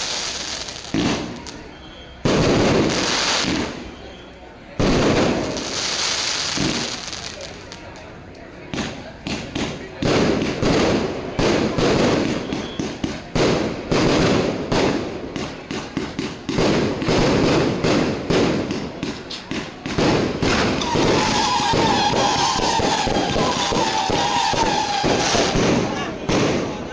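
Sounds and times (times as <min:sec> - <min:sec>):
fireworks booming: 0:00.0 - 0:04.1, 0:04.8 - 0:07.8, 0:08.7 - 0:26.9
fireworks crackling: 0:00.0 - 0:26.9.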